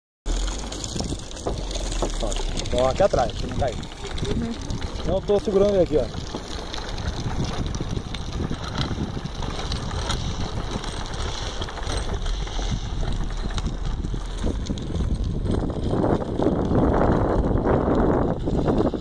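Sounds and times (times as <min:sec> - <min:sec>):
wheels rolling on pavement: 0:00.3 - 0:19.0
wind buffeting microphone: 0:00.3 - 0:19.0.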